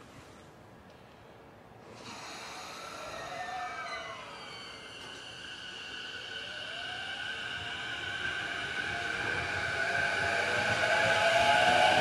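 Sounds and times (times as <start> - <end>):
electric train motors whining: 1.9 - 12.0.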